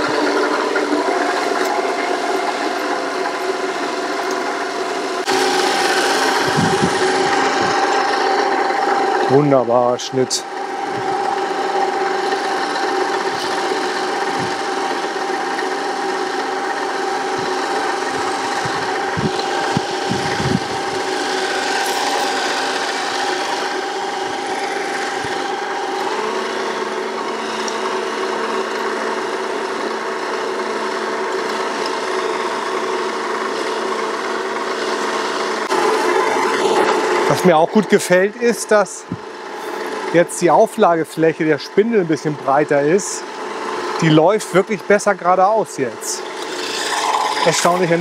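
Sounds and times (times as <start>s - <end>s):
cutting reel rasping hiss: 0.0s - 48.0s
electric mower motor whine: 0.0s - 48.0s.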